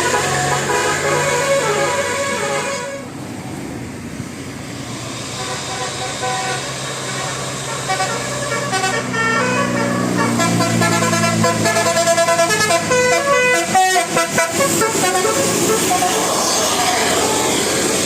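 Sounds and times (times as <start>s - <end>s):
musical air horn melody: 0.0s - 3.1s, 5.4s - 17.5s
rushing engine noise: 0.0s - 18.0s.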